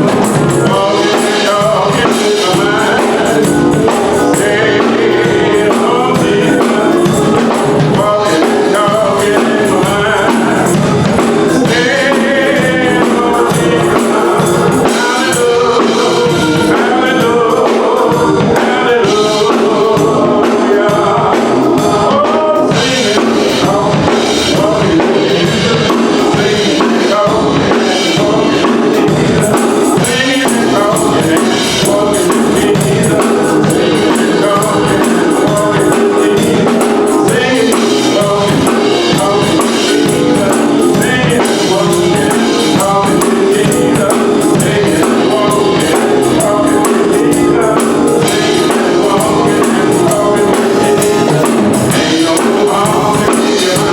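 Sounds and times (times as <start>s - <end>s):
band with steady beat: 0.0s - 53.9s
gospel choir singing: 0.0s - 53.9s
tambourine: 0.0s - 53.9s.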